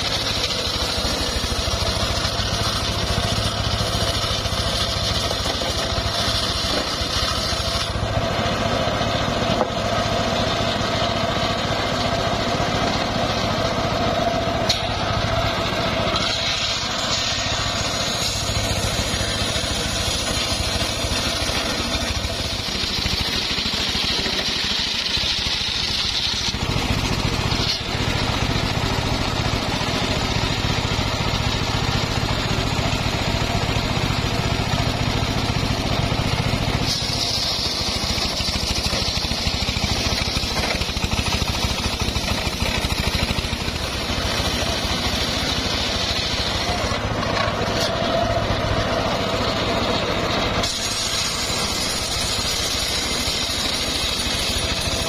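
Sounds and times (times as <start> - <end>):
saw blade whine: 0.0 - 55.0
sawmill engine running: 0.0 - 55.0.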